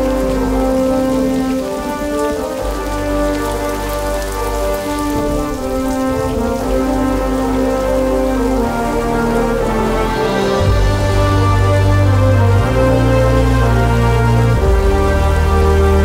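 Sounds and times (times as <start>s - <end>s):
heavy rain: 0.0s - 16.0s
slow held orchestral chords: 0.0s - 16.0s.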